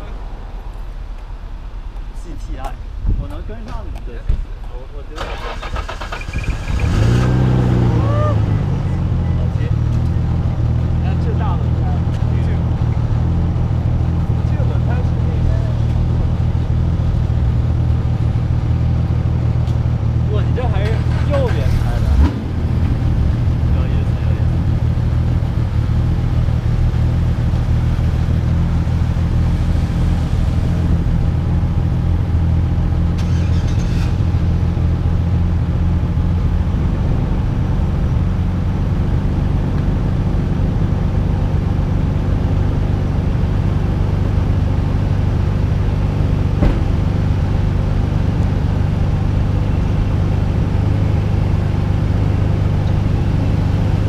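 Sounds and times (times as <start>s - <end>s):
wind and road noise: 0.0s - 54.0s
car engine running: 5.0s - 54.0s.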